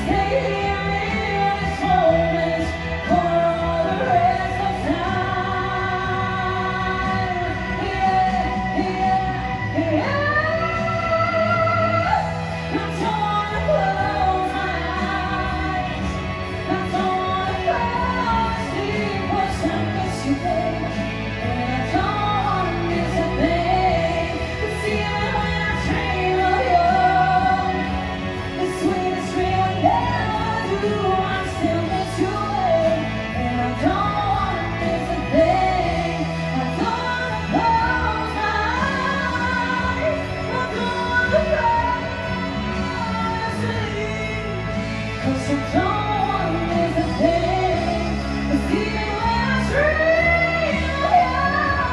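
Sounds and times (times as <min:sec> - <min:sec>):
backing band with bass and chords: 0:00.0 - 0:51.9
person singing with vibrato: 0:00.0 - 0:51.9.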